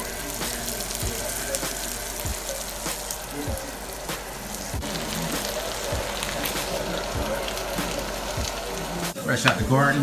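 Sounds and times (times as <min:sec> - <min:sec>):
food sizzling in a hot pan: 0:00.0 - 0:10.0.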